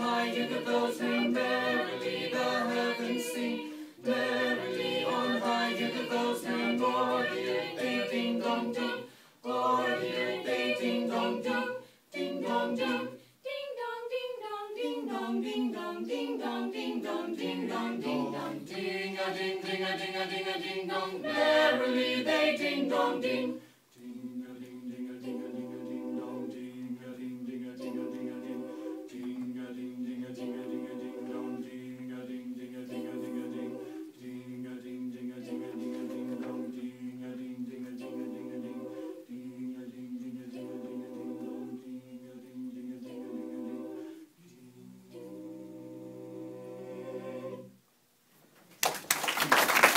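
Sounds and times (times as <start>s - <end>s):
choir singing a cappella: 0.0s - 47.9s.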